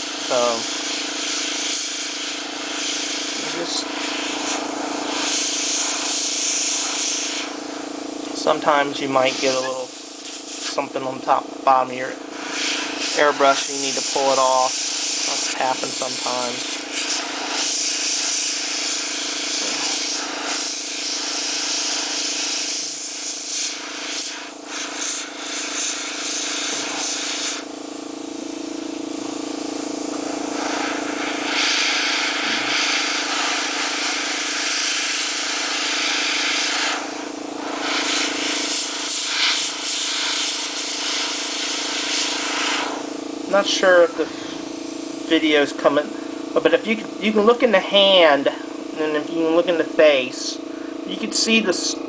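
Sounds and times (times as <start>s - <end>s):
airbrush hissing: 0.0s - 51.9s
steady low hum: 0.0s - 52.0s.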